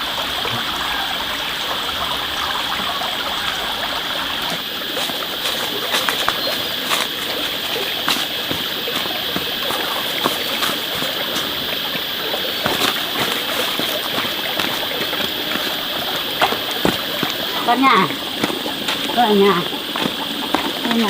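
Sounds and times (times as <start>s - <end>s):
rushing water-like hiss: 0.0s - 21.0s.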